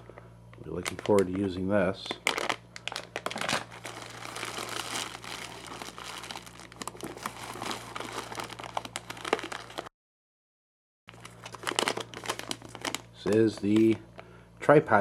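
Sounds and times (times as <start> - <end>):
packaging crinkling: 0.0 - 9.9, 11.1 - 14.0.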